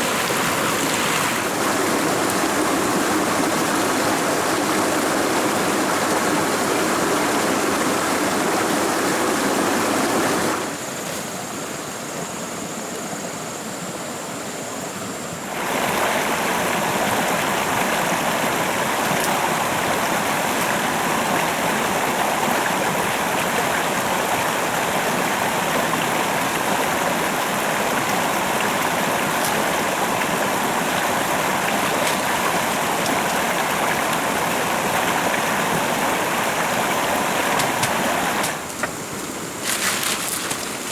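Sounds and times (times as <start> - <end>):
running water from a stream: 0.0 - 12.3, 15.0 - 40.9.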